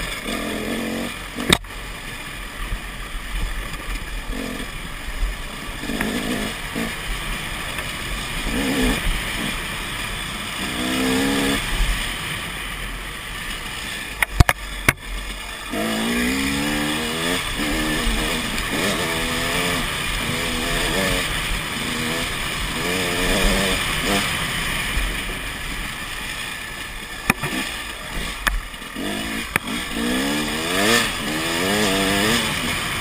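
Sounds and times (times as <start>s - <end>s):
dirt bike engine revving: 0.0s - 2.1s, 3.6s - 12.5s, 13.3s - 33.0s.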